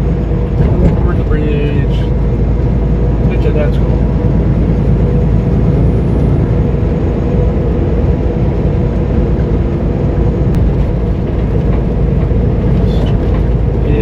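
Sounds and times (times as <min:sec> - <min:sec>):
road and tyre noise: 0:00.0 - 0:14.0
truck engine drone: 0:00.0 - 0:14.0.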